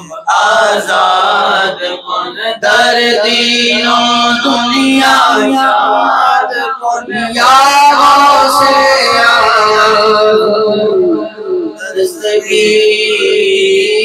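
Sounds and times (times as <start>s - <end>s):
man chanting devotional poem: 0.0s - 14.0s.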